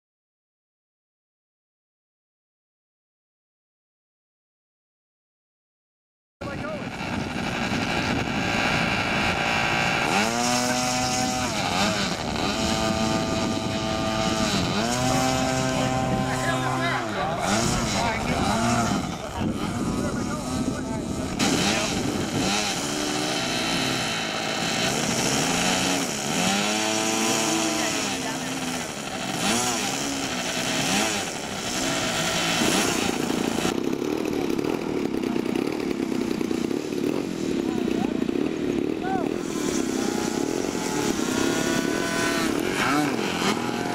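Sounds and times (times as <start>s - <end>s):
model airplane engine revving: 6.4s - 43.9s.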